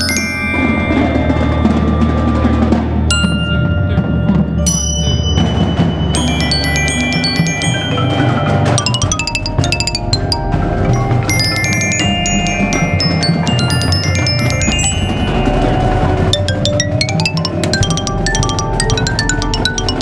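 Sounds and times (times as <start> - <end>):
xylophone strikes: 0.0 - 2.2, 3.1 - 20.0
glockenspiel notes: 0.0 - 20.0
percussion ensemble: 0.0 - 20.0.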